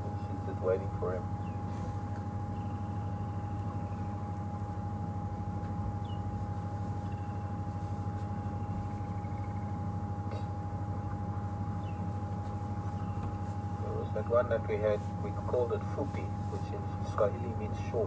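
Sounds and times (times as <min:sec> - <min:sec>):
thin high whine: 0:00.0 - 0:18.0
vehicle engine idling: 0:00.0 - 0:18.0.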